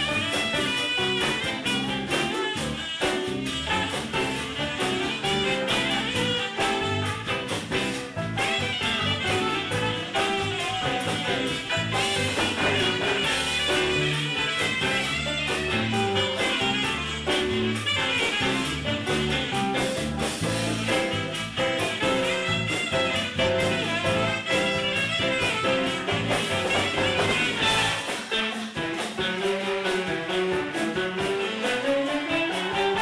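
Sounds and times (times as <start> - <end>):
big band playing cha-cha: 0.0 - 33.0
timbales and congas: 0.0 - 33.0
trumpets and saxophones: 0.0 - 33.0.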